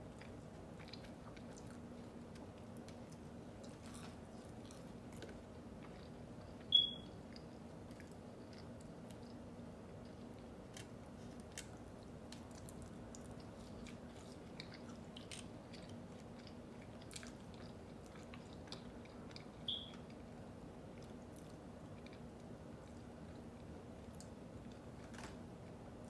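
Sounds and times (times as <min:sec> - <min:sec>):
person chewing food: 0:00.0 - 0:24.9
low background hum: 0:00.0 - 0:26.0.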